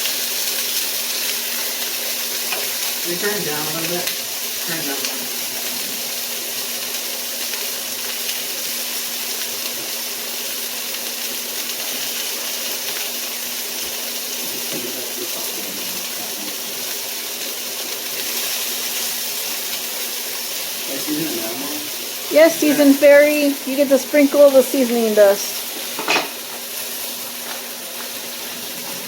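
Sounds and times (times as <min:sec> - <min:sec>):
chicken sizzling in a skillet: 0:00.0 - 0:29.0.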